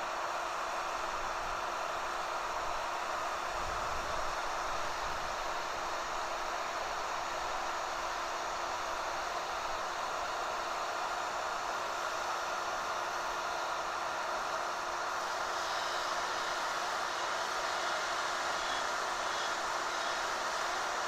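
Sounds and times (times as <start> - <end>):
heat gun fan hissing: 0.0 - 21.0.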